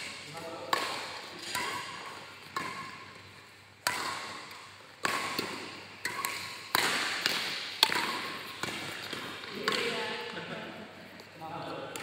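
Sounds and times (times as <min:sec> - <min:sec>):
badminton racket hitting shuttlecock: 0:00.0 - 0:10.3.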